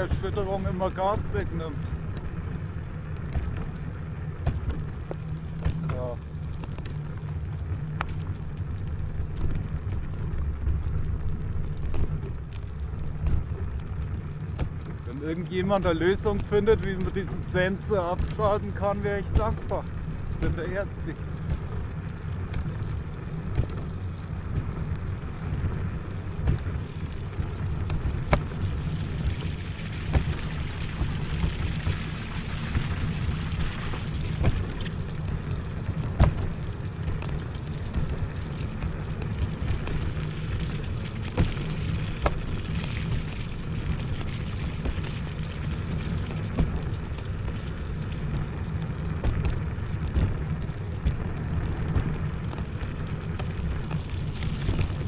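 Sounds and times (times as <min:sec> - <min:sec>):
wind and tyre rumble: 0:00.0 - 0:55.0.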